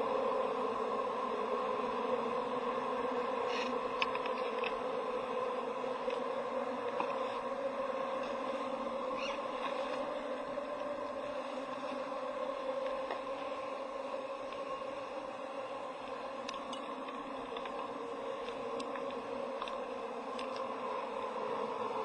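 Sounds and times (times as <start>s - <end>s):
steady droning hum: 0.0s - 22.0s.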